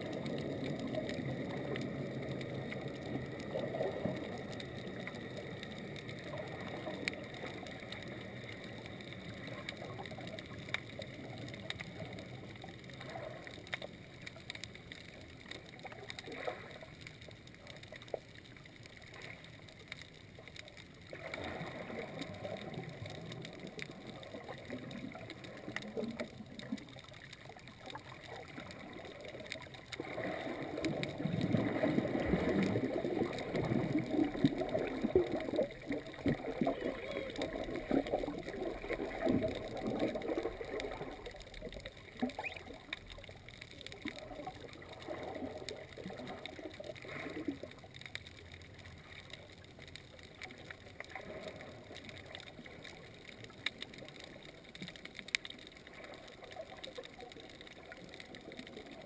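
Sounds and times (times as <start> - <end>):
muffled underwater water sloshing: 0.0 - 59.0.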